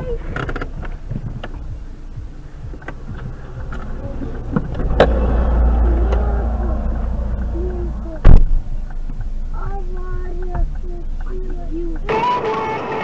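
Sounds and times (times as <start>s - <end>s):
car engine idling: 0.0s - 12.1s
heavy low rumble: 0.0s - 12.1s.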